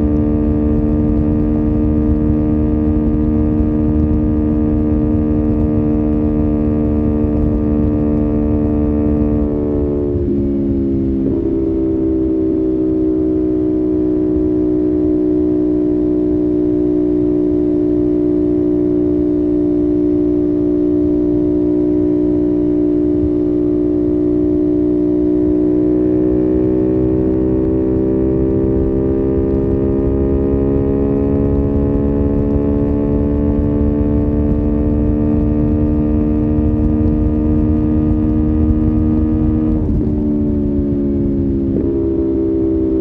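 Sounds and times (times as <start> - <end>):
motorcycle engine cruising: 0.0 - 43.0
wind and road noise: 0.0 - 43.0.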